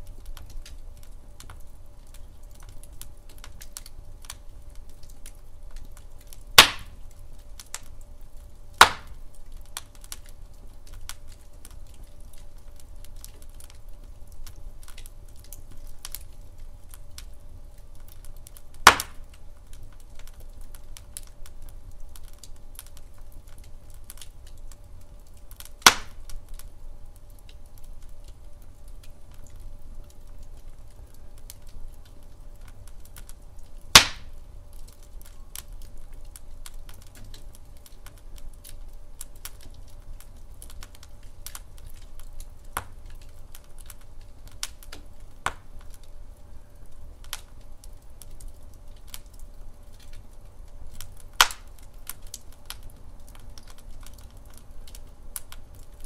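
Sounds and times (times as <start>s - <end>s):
logs crackling in fireplace: 0.0s - 56.0s
loud fire pops: 0.0s - 56.0s
low fire rumble: 0.0s - 56.0s.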